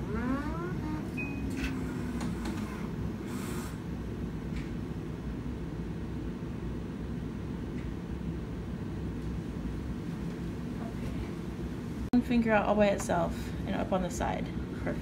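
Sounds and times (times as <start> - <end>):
equipment hum: 0.0 - 15.0.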